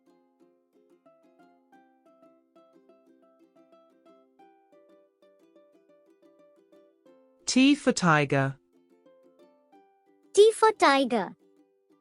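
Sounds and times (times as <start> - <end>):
faint plucked melody: 0.0 - 7.5, 8.6 - 12.0.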